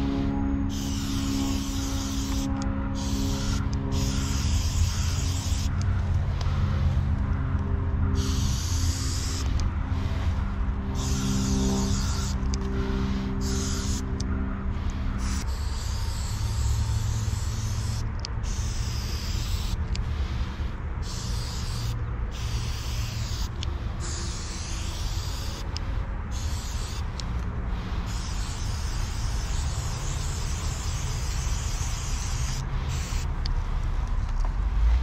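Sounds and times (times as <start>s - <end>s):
steady low rumble: 0.0s - 35.0s
spray paint can hissing: 0.7s - 7.0s, 8.2s - 33.6s.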